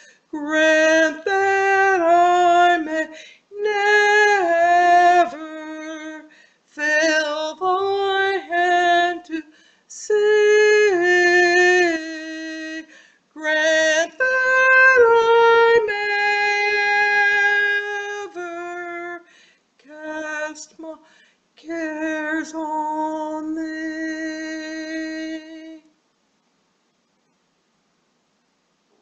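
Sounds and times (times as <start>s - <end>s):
woman singing a hymn: 0.0s - 25.9s.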